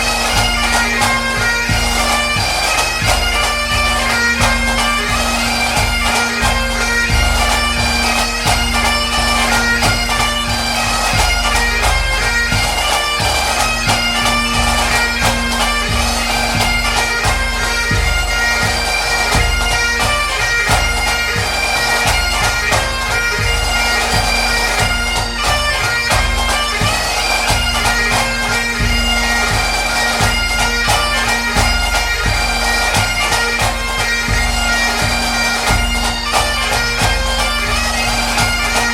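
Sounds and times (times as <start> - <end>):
bagpipe chanter melody: 0.0 - 38.9
bagpipe drone: 0.0 - 38.9.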